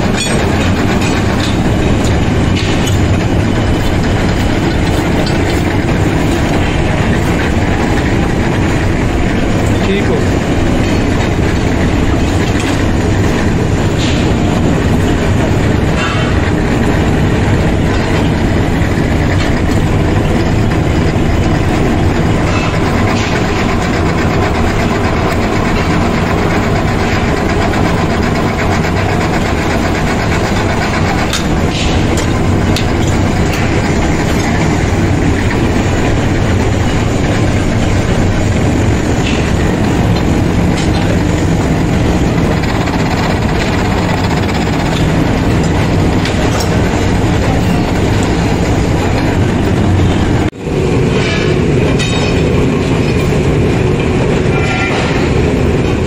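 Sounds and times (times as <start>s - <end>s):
heavy metalworking machinery running: 0.0s - 56.0s.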